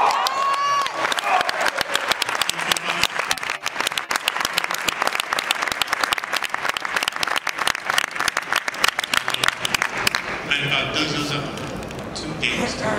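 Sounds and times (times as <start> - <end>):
crowd clapping: 0.0 - 10.5.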